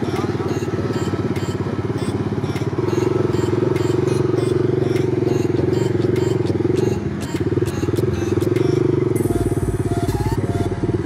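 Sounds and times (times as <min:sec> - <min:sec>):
thresher ticking: 0:00.0 - 0:10.5
tractor engine throbbing: 0:00.0 - 0:11.0.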